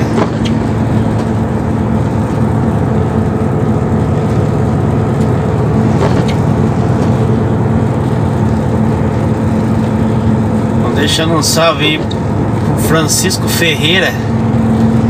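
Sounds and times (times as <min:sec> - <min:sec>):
tyres on wet road: 0:00.0 - 0:15.0
vehicle engine drone: 0:00.0 - 0:15.0.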